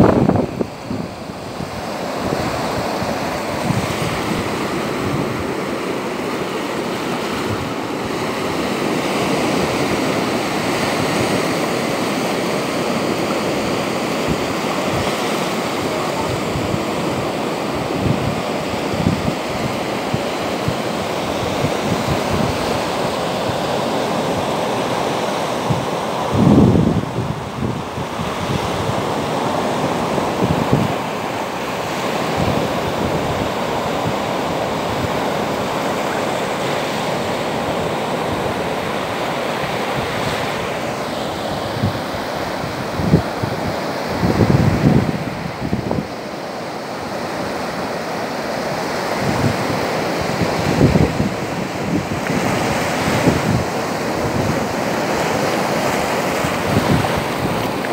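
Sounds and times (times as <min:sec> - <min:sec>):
wind buffeting microphone: 0:00.0 - 0:47.7, 0:48.6 - 0:57.9
waves breaking on sandy beach: 0:00.0 - 0:57.9.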